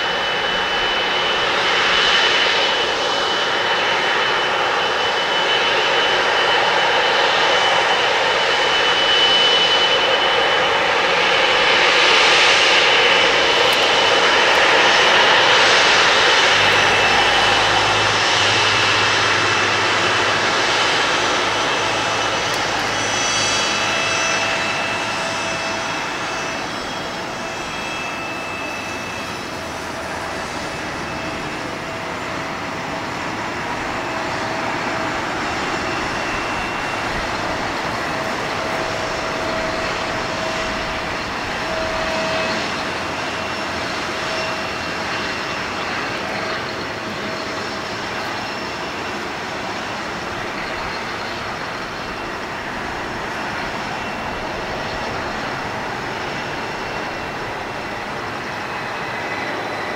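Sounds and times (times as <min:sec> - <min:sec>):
jet engines at taxi power: 0:00.0 - 0:59.9.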